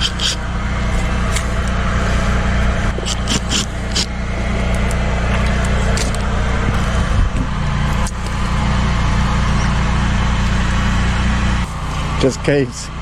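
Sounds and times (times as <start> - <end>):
machine engine droning: 0.0 - 13.0.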